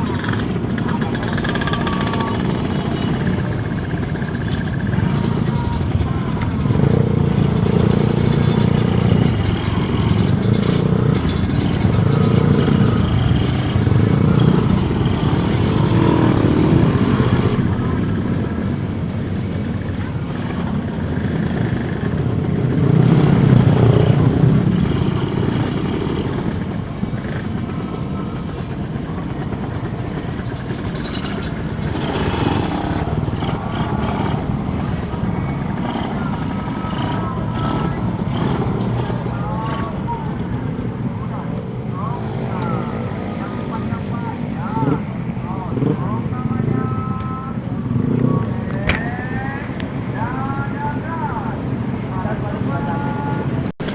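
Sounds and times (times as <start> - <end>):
two-stroke motorcycle engine: 0.0 - 53.9
wind and road noise: 0.0 - 53.9.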